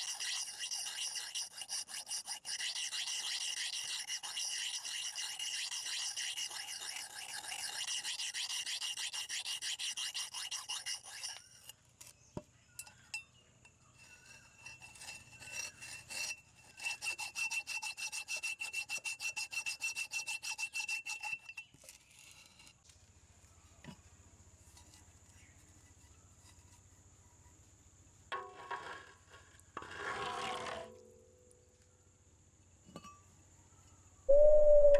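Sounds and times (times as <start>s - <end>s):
scraping rust off metal: 0.0s - 13.2s, 13.8s - 23.0s, 23.8s - 27.7s, 28.3s - 31.1s.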